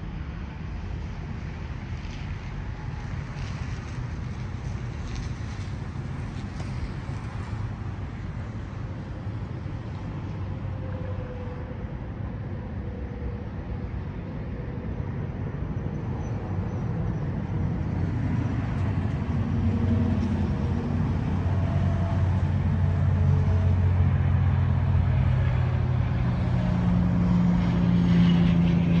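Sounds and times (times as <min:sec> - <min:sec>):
vehicle engine humming: 0:02.4 - 0:29.0.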